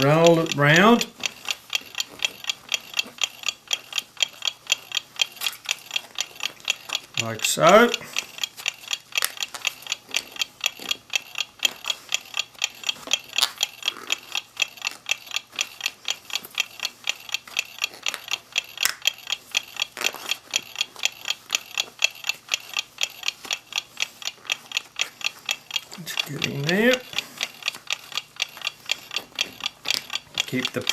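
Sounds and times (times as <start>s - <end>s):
mechanical clocks ticking: 0.0s - 30.9s.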